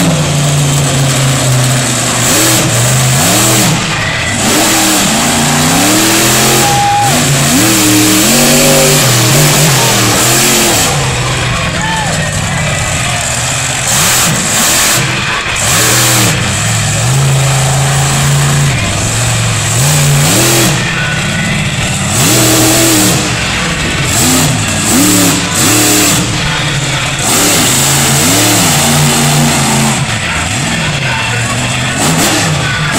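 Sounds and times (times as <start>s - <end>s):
truck engine revving: 0.0s - 32.9s.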